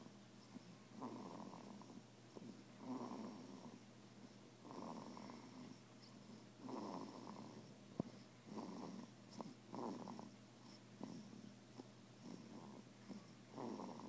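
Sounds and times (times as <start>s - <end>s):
baby snoring quietly: 0.0s - 14.0s.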